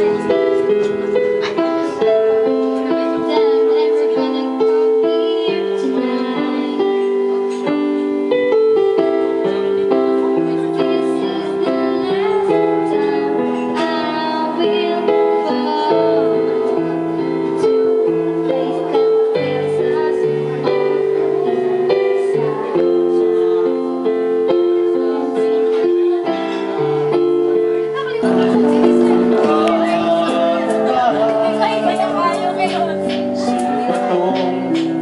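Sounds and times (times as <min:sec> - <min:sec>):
electronic keyboard chords: 0:00.0 - 0:35.0
woman singing into a microphone: 0:00.0 - 0:35.0.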